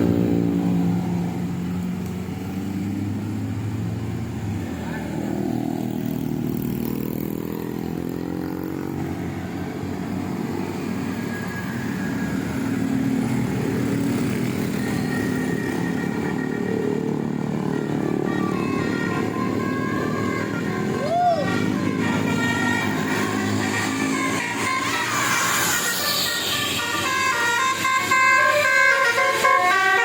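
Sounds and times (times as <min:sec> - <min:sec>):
vehicle engines running: 0:00.0 - 0:30.0
vehicle passing by: 0:00.0 - 0:30.0.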